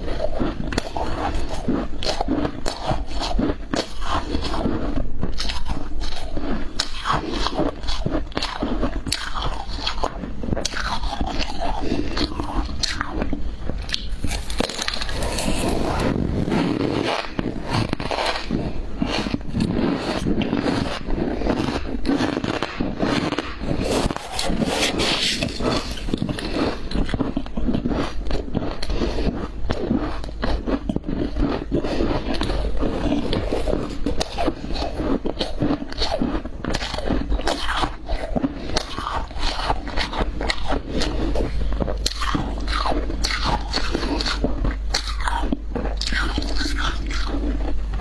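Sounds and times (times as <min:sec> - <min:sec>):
crunching ice: 0:00.0 - 0:48.0.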